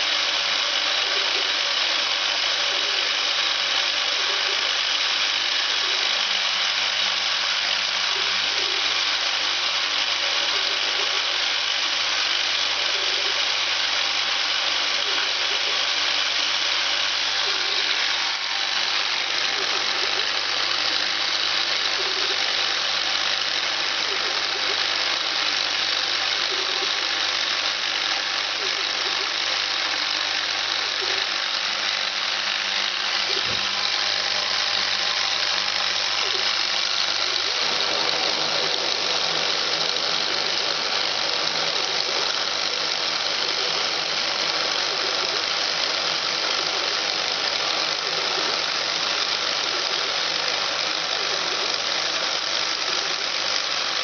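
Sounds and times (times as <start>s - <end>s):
milling machine whirring: 0.0s - 54.0s.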